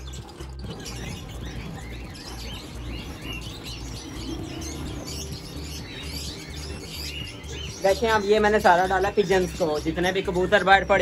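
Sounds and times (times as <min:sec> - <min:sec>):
caged birds chirping: 0:00.0 - 0:11.0.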